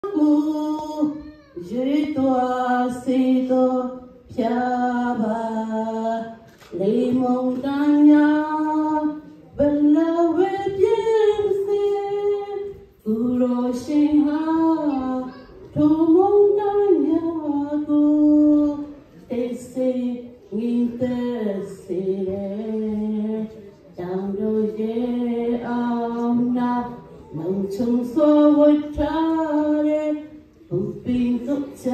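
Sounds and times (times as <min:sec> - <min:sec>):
woman singing unaccompanied: 0:00.0 - 0:31.9.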